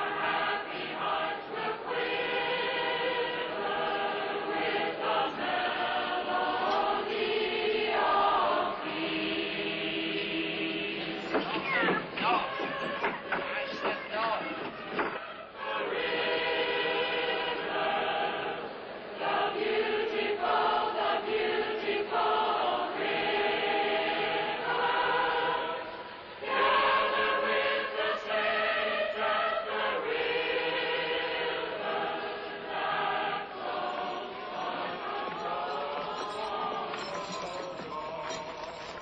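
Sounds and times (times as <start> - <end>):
voices singing a hymn: 0.0 - 39.0.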